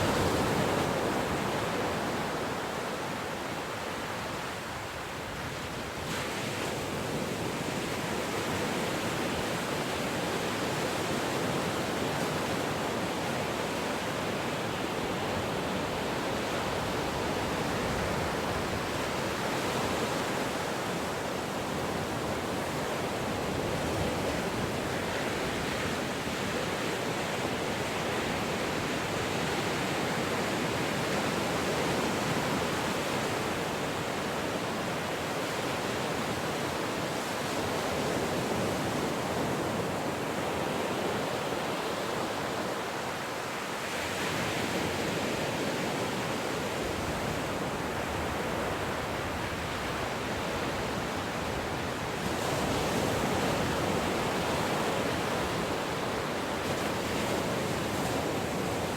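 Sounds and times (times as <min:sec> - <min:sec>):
ocean waves on shore: 0:00.0 - 0:58.9.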